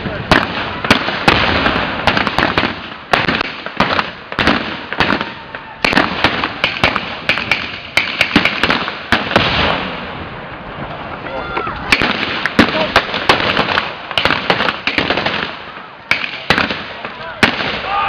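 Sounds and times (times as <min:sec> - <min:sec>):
gunfire cracks and bangs: 0:00.3 - 0:10.0, 0:11.9 - 0:17.9.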